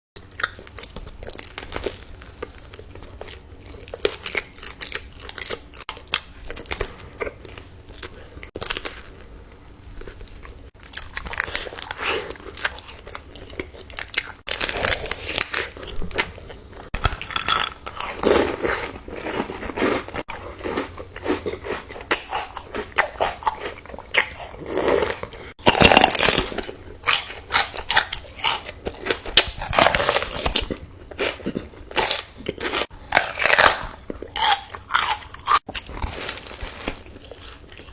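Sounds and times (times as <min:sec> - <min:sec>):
chewing crunchy food: 0:00.2 - 0:37.9.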